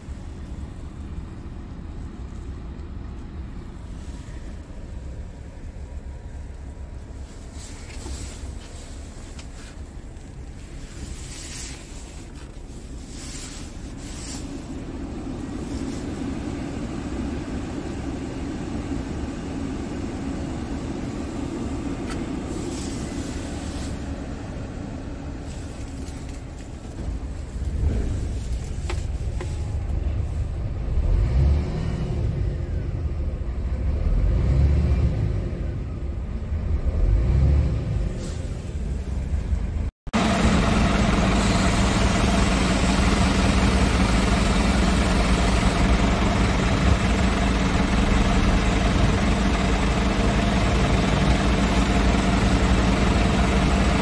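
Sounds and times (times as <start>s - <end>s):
diesel truck engine idling: 0.0s - 30.9s, 37.9s - 54.0s.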